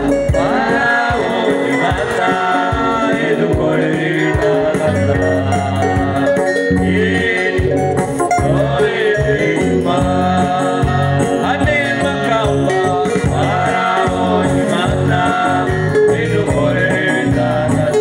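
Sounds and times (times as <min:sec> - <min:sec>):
gospel singing: 0:00.0 - 0:18.0
instruments playing: 0:00.0 - 0:18.0
steady drum beat: 0:00.0 - 0:18.0.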